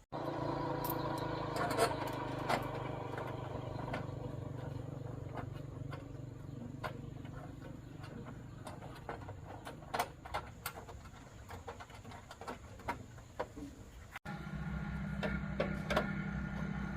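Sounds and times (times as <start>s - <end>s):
small motorcycle engine idling: 0.0s - 12.5s, 14.3s - 16.9s.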